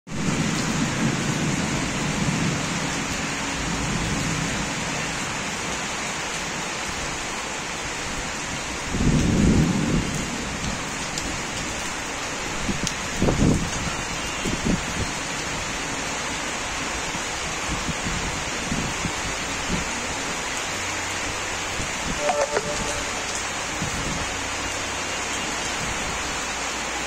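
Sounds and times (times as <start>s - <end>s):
heavy rain hiss: 0.1s - 27.0s.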